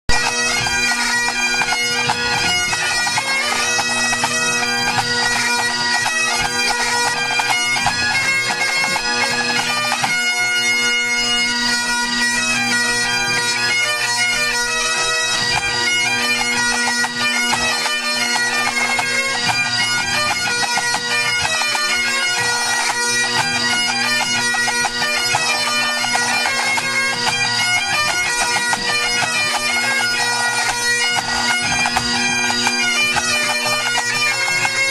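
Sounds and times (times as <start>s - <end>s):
bagpipe chanters playing: 0.1s - 34.9s
bagpipe drone: 0.1s - 34.9s.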